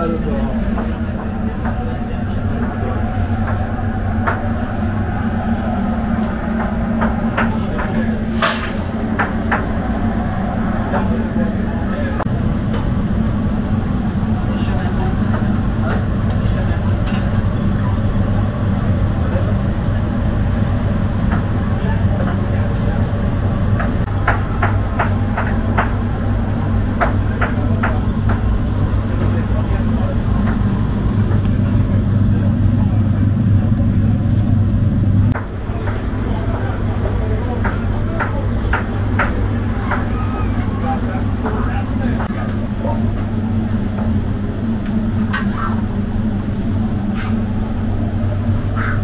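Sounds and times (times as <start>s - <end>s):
steady low machine hum: 0.0s - 49.0s.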